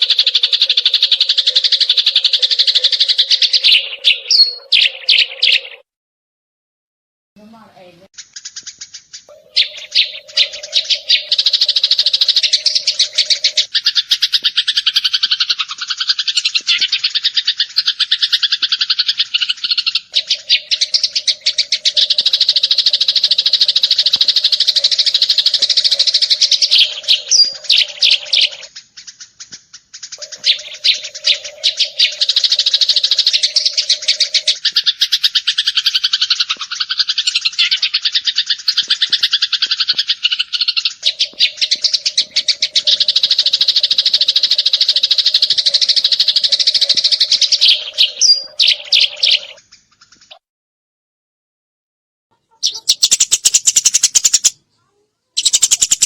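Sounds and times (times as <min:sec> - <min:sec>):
sparrow chirping rapidly: 0:00.0 - 0:05.8, 0:07.4 - 0:50.4, 0:52.5 - 0:56.0.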